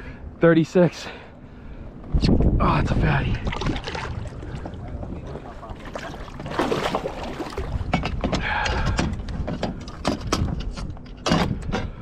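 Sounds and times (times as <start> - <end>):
wind rumble on microphone: 1.9 - 12.0.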